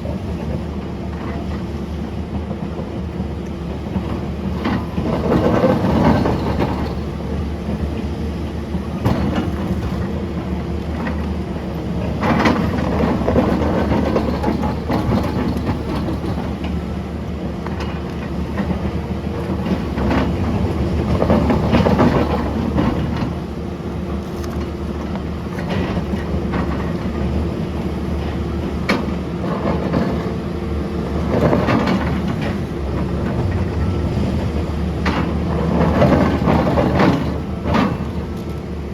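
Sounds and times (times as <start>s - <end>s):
excavator diesel engine under load: 0.0s - 38.9s.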